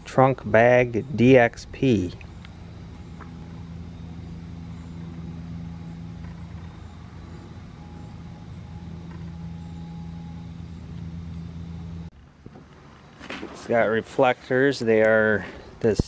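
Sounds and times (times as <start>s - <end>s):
faint high whine: 0.0s - 16.0s
low mechanical hum: 0.0s - 16.0s.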